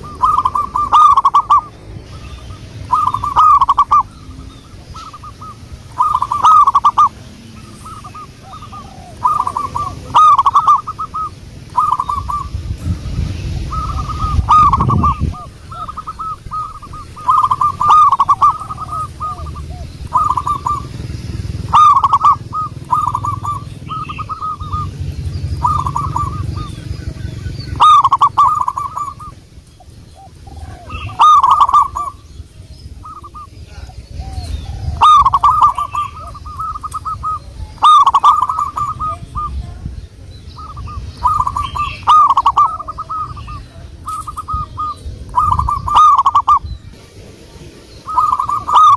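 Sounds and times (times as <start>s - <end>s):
low rumble: 0.0s - 48.7s
dove cooing: 0.0s - 48.9s.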